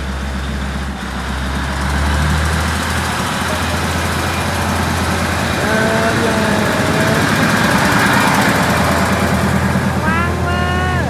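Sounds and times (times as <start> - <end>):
diesel railcar engine drone: 0.0 - 11.0.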